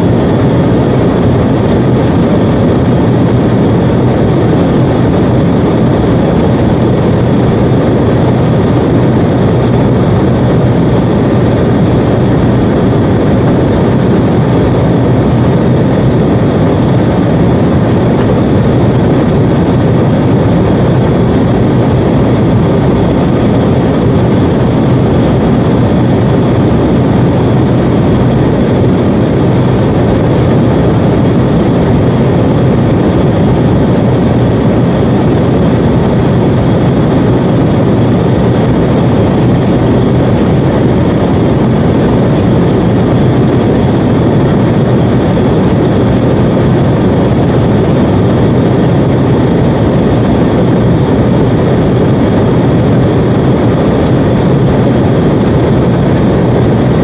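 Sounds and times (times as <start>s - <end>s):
jet airliner cabin noise: 0.0s - 57.0s
low hum: 0.0s - 57.0s.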